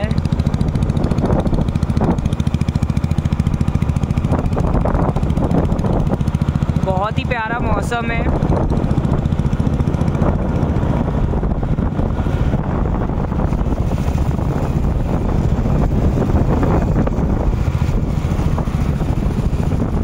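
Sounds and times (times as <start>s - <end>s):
road noise: 0.0s - 20.0s
scooter engine: 0.0s - 20.0s
wind rumbling on microphone: 0.0s - 20.0s.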